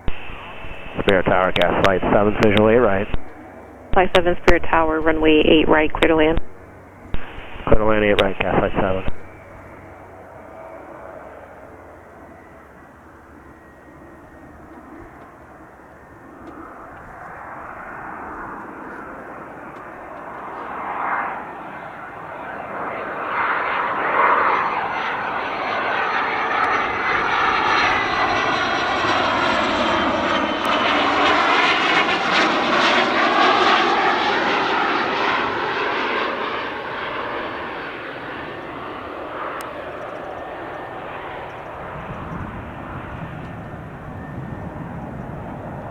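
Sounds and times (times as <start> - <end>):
jet turbofans whining: 0.0 - 45.9.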